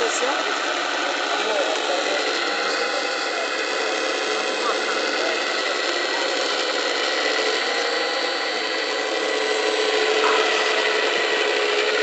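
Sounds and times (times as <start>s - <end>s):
toy excavator motor and pump whining: 0.0s - 12.0s.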